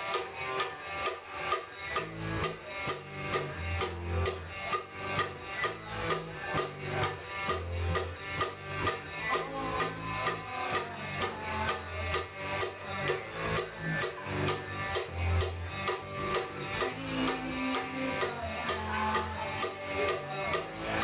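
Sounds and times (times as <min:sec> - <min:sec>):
drum kit beat: 0:00.0 - 0:21.0
electric guitar: 0:00.0 - 0:21.0
low bass notes: 0:01.4 - 0:21.0.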